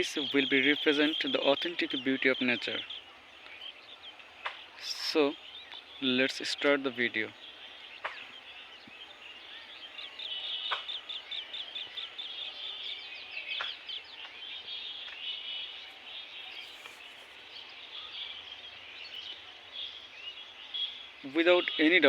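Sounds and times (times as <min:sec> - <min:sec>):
birds chirping and twittering: 0:00.0 - 0:22.0
outdoor ambience: 0:00.0 - 0:22.0.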